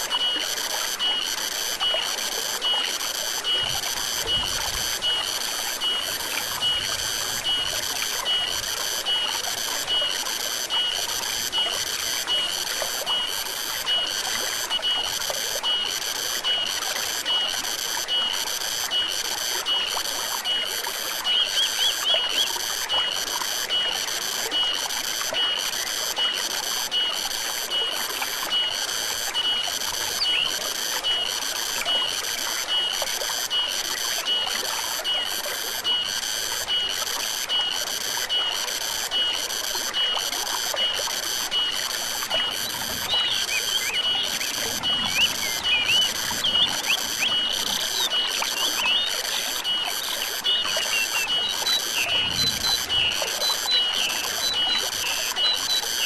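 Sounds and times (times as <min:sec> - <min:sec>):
stream water running: 0:00.0 - 0:56.0.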